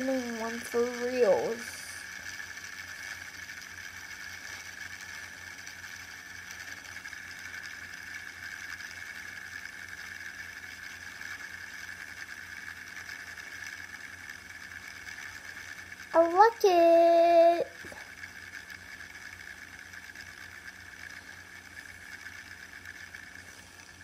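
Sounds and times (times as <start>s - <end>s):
fidget spinner whirring: 0.0s - 24.0s.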